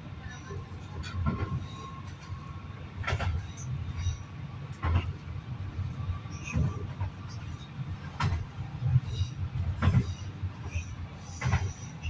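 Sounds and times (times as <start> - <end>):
railbus running rumble: 0.0 - 12.0.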